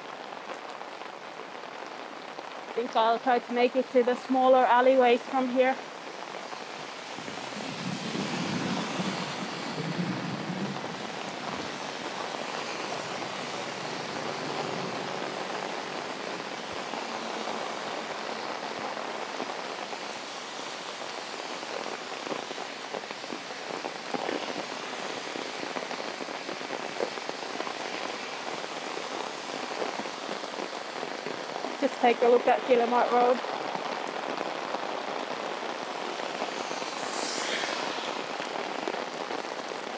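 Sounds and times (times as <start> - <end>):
heavy rain falling: 0.0 - 39.9
raindrops pattering on umbrella: 0.0 - 39.9.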